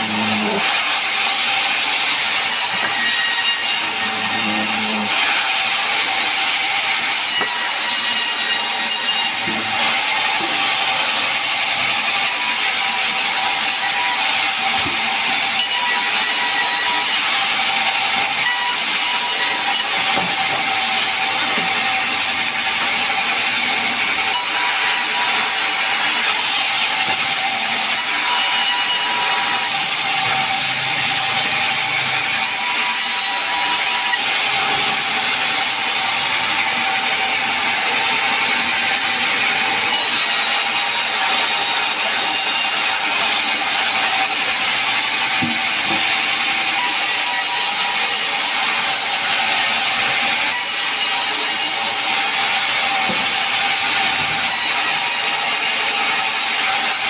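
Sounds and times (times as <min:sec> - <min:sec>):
sawmill saw whining: 0:00.0 - 0:57.0.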